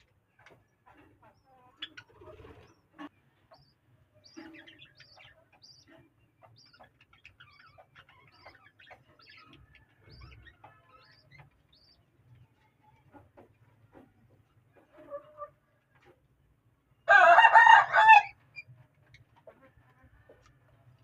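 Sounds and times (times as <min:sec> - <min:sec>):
small birds chirping: 0:00.0 - 0:17.1.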